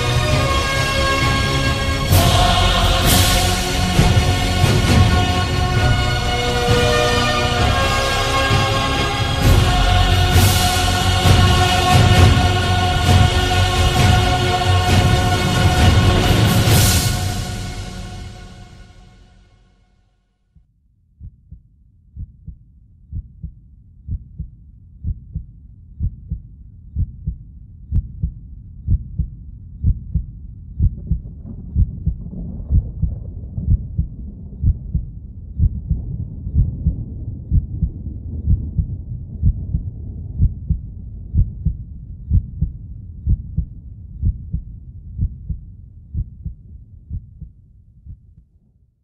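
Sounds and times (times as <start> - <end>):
low hum: 0.0 - 19.6, 26.0 - 48.4
heartbeat thumps: 2.1 - 6.1, 8.5 - 17.6, 20.6 - 48.4.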